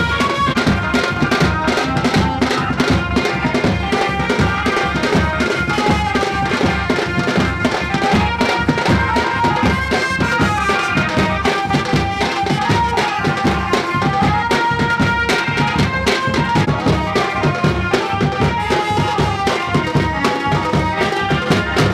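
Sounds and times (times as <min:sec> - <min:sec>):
fast drum beat: 0:00.0 - 0:21.9
stepwise melody: 0:00.0 - 0:21.9.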